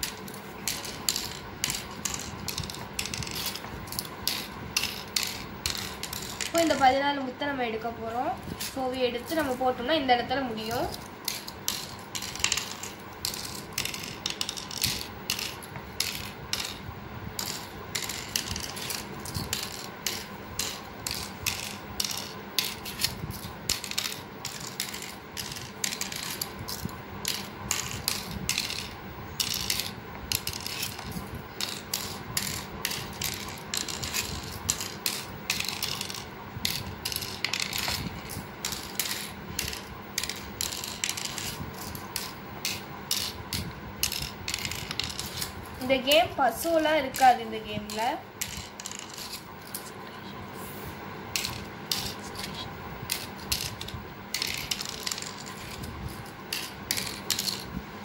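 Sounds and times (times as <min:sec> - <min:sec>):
shells clicking into board cups: 0:00.0 - 0:06.8, 0:10.7 - 0:46.2, 0:47.1 - 0:49.9, 0:51.3 - 0:55.9, 0:56.5 - 0:57.8.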